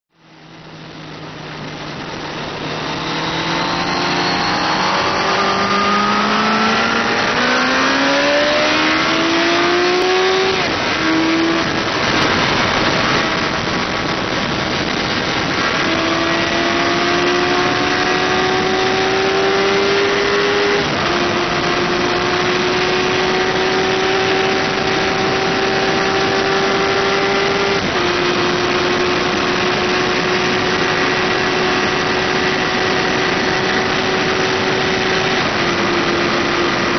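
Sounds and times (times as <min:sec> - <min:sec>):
motorcycle engine revving through gears: 0:00.2 - 0:36.9
wind noise rushing: 0:01.6 - 0:36.9.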